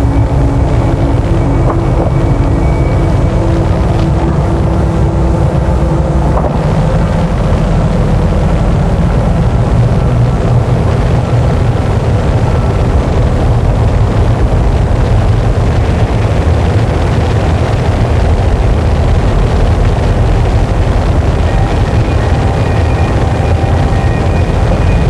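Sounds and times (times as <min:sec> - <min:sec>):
distorted static noise music: 0:00.0 - 0:25.0.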